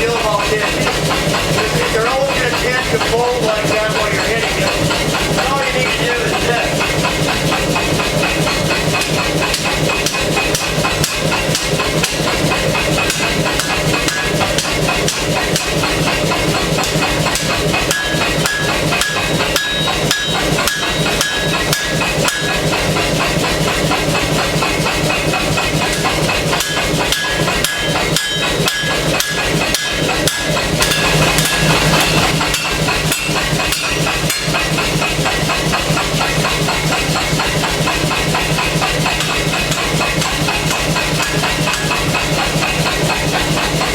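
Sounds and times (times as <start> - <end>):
metal ringing tones: 0.0 - 43.9
power hammer striking steel: 0.0 - 43.9.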